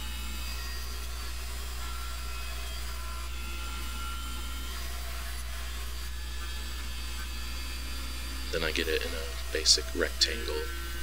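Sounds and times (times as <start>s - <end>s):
bandsaw cutting wood: 0.0s - 11.0s.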